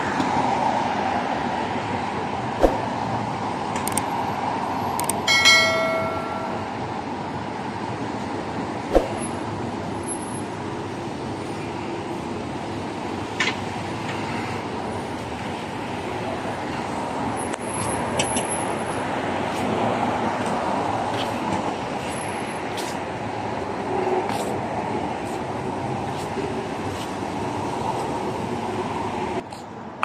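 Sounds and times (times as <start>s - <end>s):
cars passing on street: 0.0s - 30.0s.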